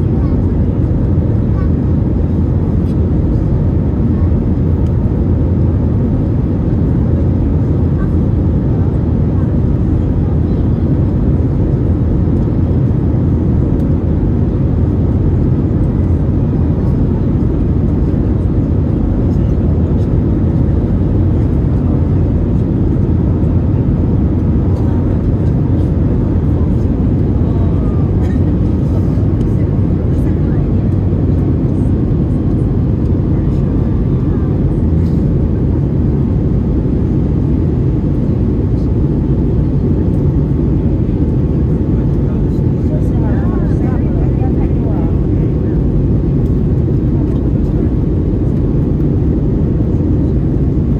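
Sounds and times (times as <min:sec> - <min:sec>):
aircraft cabin rumble: 0:00.0 - 0:50.9.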